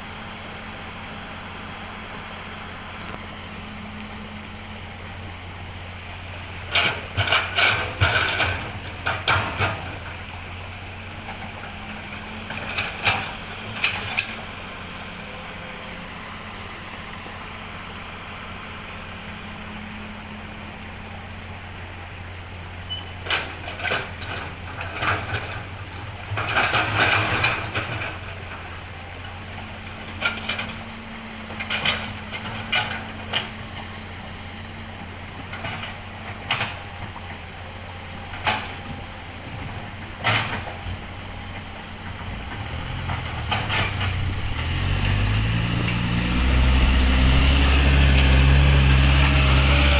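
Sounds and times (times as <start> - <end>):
diesel engine running: 0.0 - 49.9
excavator bucket clanking and scraping: 4.1 - 15.8, 21.5 - 49.9.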